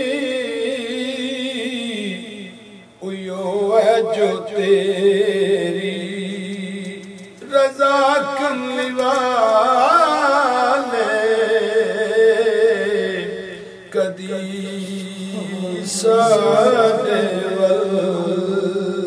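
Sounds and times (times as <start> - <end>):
man chanting devotional verse: 0.0 - 19.0.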